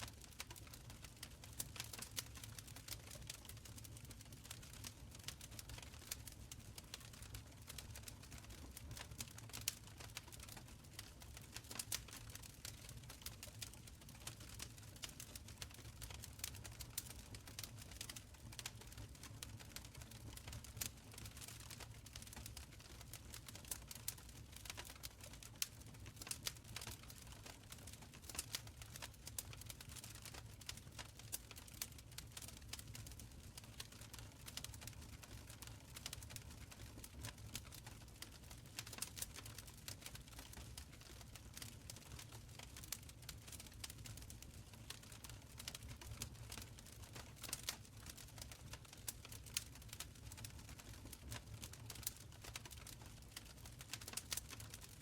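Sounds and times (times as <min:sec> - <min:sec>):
wood fire crackling: 0:00.0 - 0:55.0
low rumble of flames: 0:00.2 - 0:54.8.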